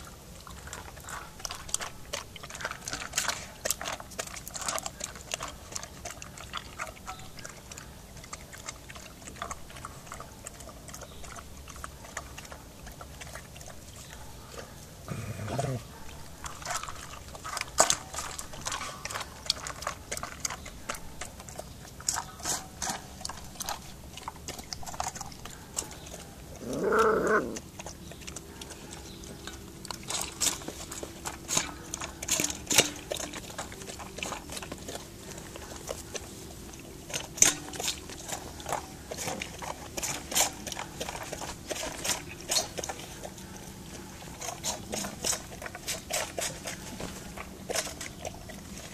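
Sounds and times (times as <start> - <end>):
dog crunching kibble: 0.0 - 48.9.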